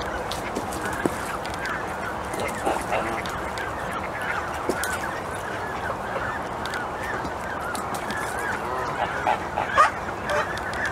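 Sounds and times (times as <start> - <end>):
waterfowl calling: 0.0 - 10.9.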